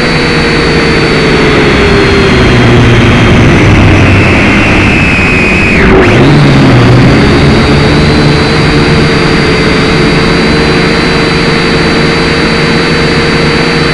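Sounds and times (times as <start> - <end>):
drone motors whining: 0.0 - 13.9.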